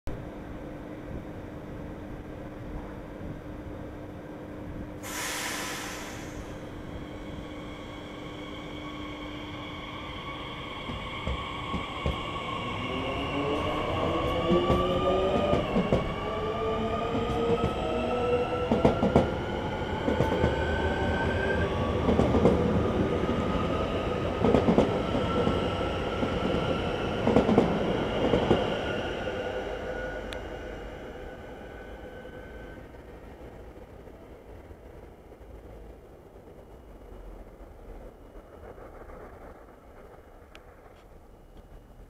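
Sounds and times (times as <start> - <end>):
train rolling rumble: 0.2 - 42.0.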